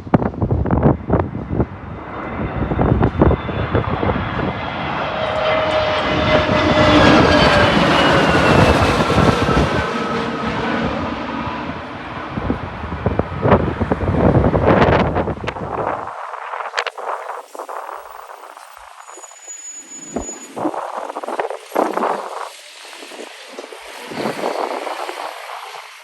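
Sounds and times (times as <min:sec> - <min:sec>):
wind buffeting microphone: 0:00.0 - 0:18.6, 0:20.1 - 0:26.0
jet airliner passing overhead: 0:00.0 - 0:26.0.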